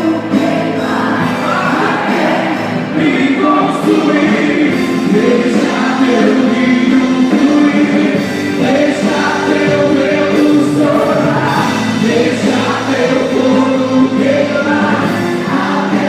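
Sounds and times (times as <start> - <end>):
band playing worship music: 0.0 - 16.0
voices singing sustained notes: 0.0 - 16.0.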